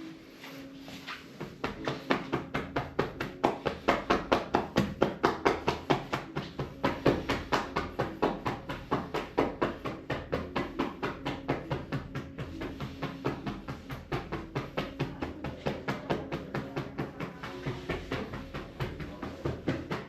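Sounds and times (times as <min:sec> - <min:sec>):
hands slapping on a back: 0:01.4 - 0:20.0.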